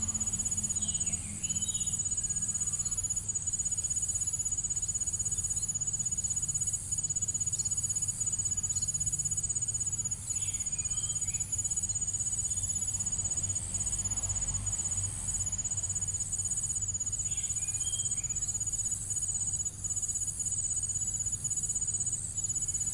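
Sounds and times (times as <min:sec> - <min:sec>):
crickets trilling: 0:00.0 - 0:22.9.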